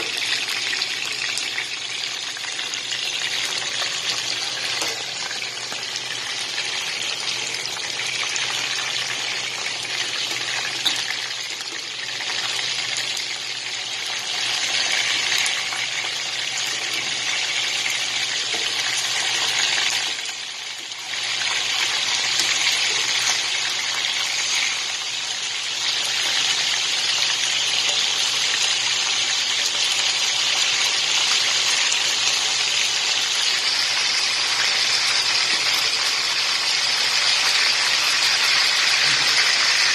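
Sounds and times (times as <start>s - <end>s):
chicken frying in oil: 0.0s - 39.9s.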